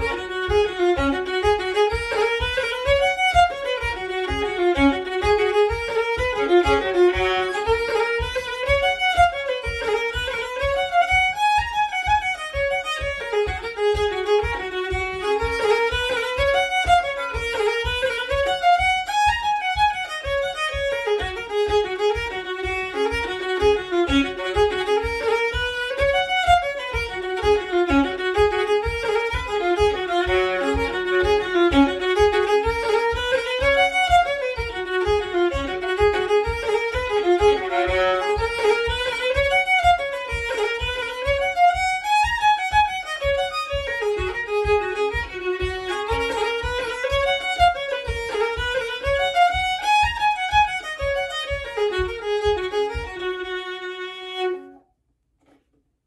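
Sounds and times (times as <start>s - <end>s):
fiddle playing a jig: 0.0s - 54.8s
low thump keeping the beat: 0.0s - 54.8s.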